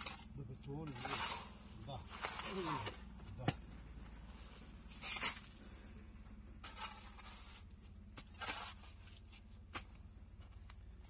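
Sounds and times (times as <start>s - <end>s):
shovels scraping concrete mix: 0.0s - 5.9s, 6.6s - 10.0s.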